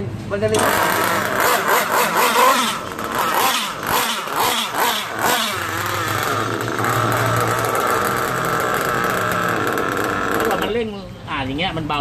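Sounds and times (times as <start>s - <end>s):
model engine revving: 0.5s - 10.9s.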